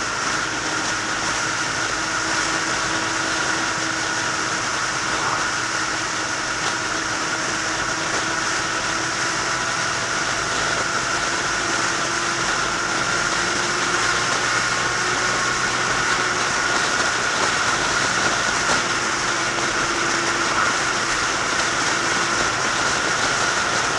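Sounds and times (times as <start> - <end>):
motorcycle engine drone: 0.0 - 23.9
wind and road noise: 0.0 - 23.9.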